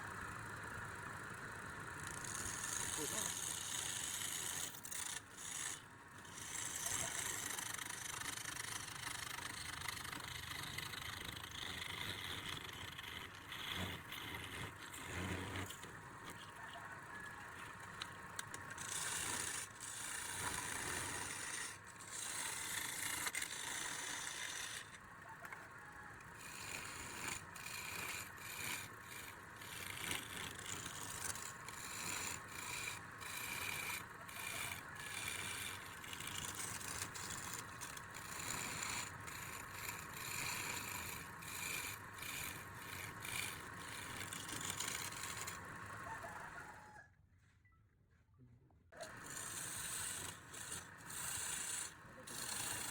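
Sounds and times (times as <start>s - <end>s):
tools scraping wood: 2.1s - 16.5s, 18.0s - 25.6s, 26.3s - 46.1s, 49.0s - 52.9s.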